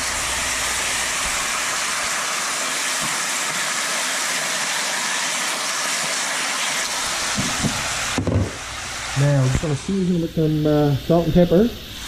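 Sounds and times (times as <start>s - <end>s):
meat frying in hot oil: 0.0s - 12.0s.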